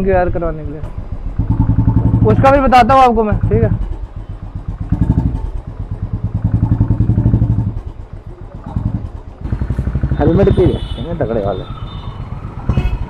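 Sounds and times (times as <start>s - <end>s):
motorcycle engine revving: 0.8s - 13.0s.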